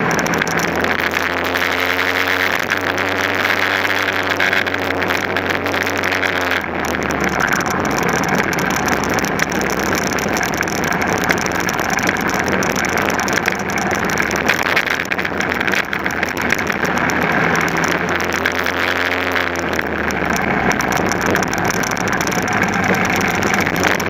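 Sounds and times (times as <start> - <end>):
chassis clicking rattle: 0.0 - 24.0
kart engine running hard: 0.0 - 24.0
wind noise: 0.0 - 24.0.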